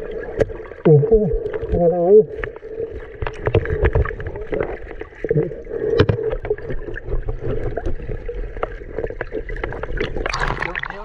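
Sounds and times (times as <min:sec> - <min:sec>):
muffled underwater churning: 0:00.0 - 0:11.0.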